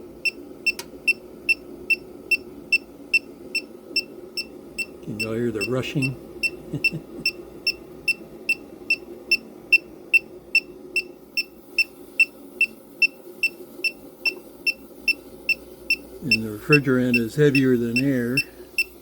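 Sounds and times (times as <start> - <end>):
faint rush of flowing refrigerant: 0.0 - 19.0.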